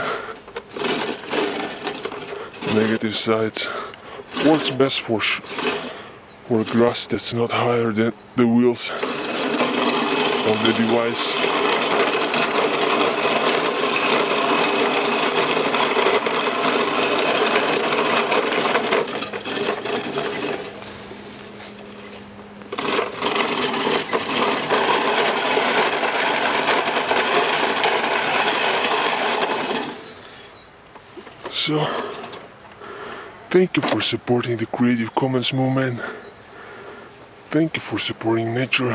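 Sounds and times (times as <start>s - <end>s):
push reel mower cutting grass: 0.0s - 38.9s.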